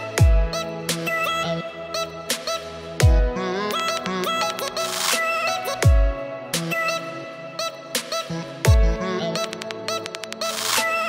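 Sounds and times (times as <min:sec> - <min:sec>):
electronic music with a beat: 0:00.0 - 0:11.0.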